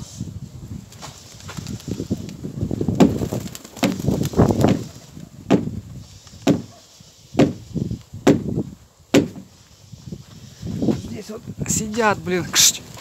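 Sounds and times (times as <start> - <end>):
wind buffeting microphone: 0.0 - 6.7, 7.3 - 13.0.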